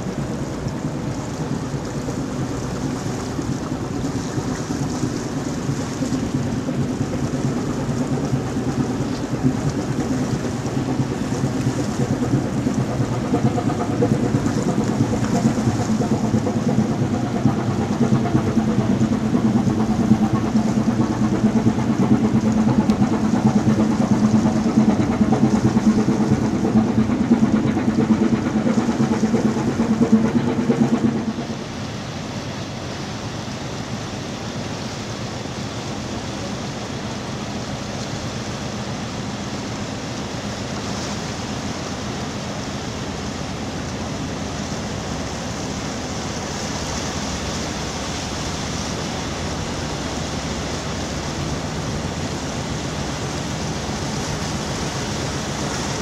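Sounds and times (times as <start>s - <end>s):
diesel engine humming: 0.0s - 32.4s, 42.4s - 56.0s
water rushing: 0.0s - 56.0s.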